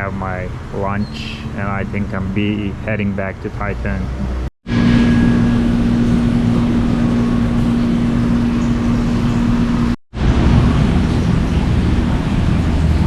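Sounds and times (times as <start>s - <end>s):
vehicle engine running: 0.0s - 13.0s
wind and road noise: 0.0s - 13.0s.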